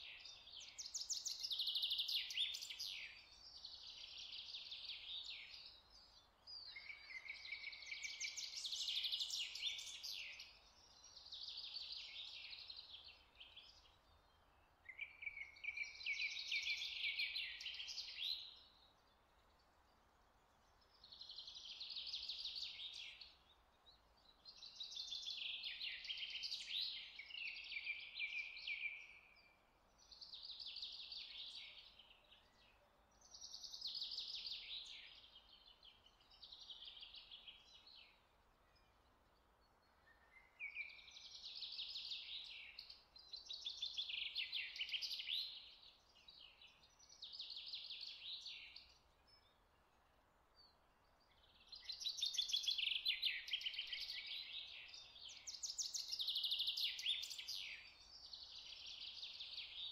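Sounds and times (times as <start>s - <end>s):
bird singing chirps and trills: 0.0s - 19.9s, 20.6s - 59.9s.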